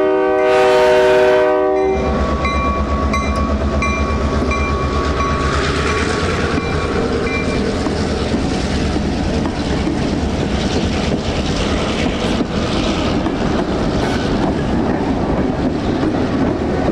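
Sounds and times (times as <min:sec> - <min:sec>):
train wheels rumbling on rails: 0:00.0 - 0:16.9
locomotive engine running: 0:01.7 - 0:16.9.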